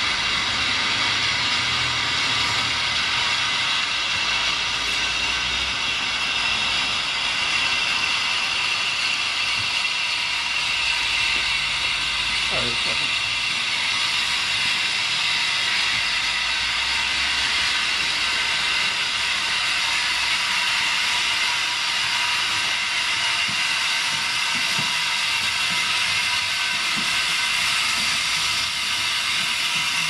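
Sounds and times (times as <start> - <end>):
steam locomotive hissing steam: 0.0 - 30.0.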